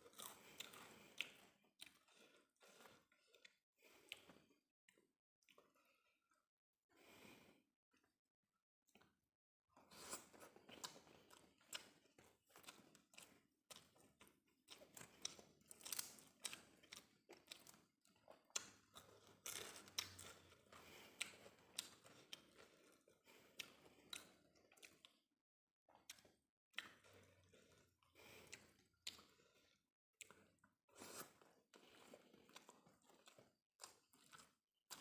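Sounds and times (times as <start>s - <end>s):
chewing with wet mouth clicks: 0.1s - 6.4s, 10.7s - 20.6s, 21.2s - 25.2s, 25.9s - 35.0s.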